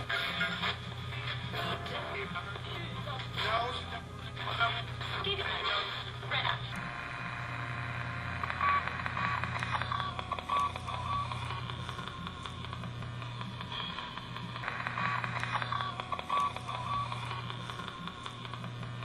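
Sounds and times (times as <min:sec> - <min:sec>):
radio static with fast clicking: 0:00.0 - 0:19.0.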